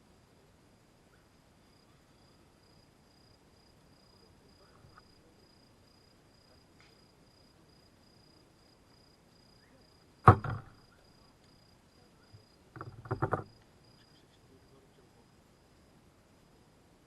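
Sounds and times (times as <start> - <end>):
faint high insect trill: 0.0 - 17.0.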